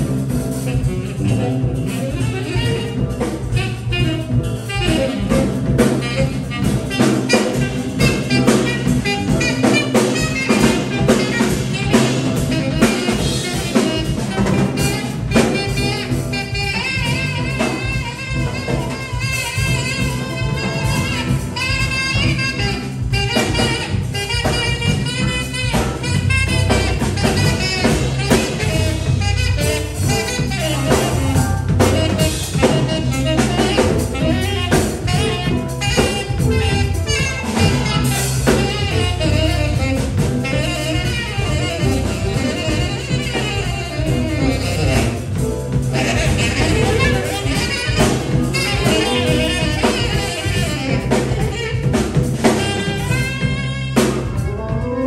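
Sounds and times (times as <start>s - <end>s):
drum kit: 0.0s - 55.0s
electric keyboard: 0.0s - 55.0s
saxophone improvising: 0.0s - 55.0s.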